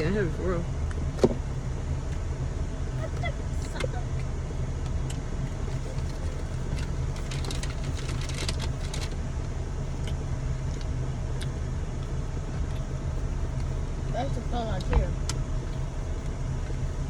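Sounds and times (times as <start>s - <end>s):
car rumble inside cabin: 0.0s - 17.0s.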